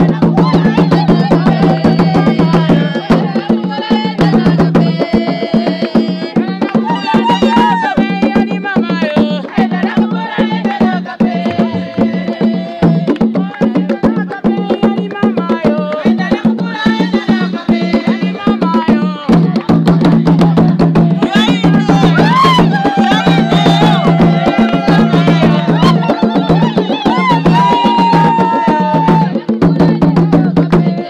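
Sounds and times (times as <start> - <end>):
women singing: 0.0 - 31.0
wooden hand drums: 0.0 - 31.0.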